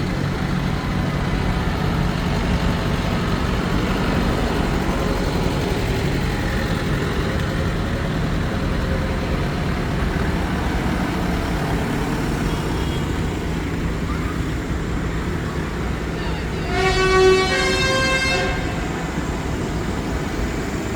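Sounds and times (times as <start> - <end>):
tractor engines droning: 0.0 - 20.9.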